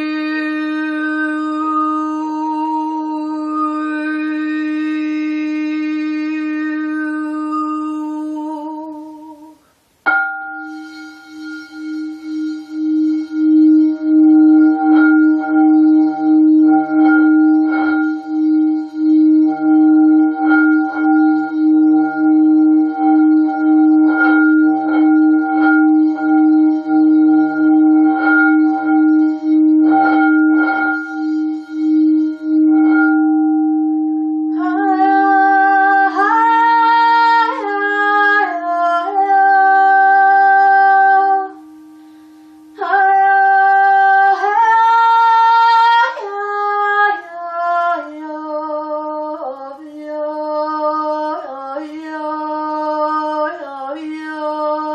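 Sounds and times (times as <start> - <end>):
singing bowl strikes: 0.0 - 48.0
singing bowl ringing: 0.0 - 54.9
woman singing wordless notes: 0.0 - 54.9.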